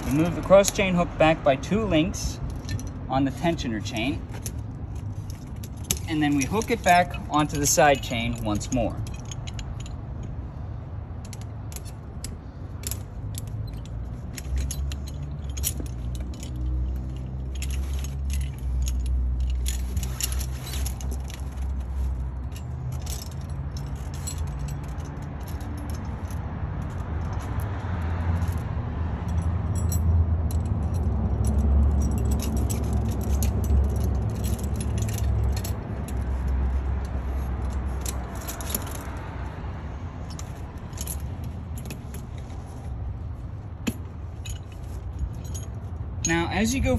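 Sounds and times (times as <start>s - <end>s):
tire chains clinking: 0.0s - 46.9s.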